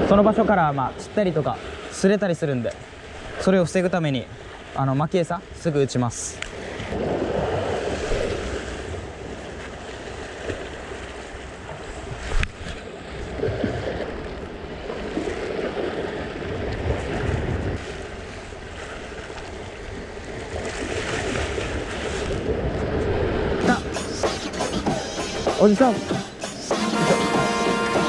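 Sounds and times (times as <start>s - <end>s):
waves on rocky shore: 0.0s - 28.0s.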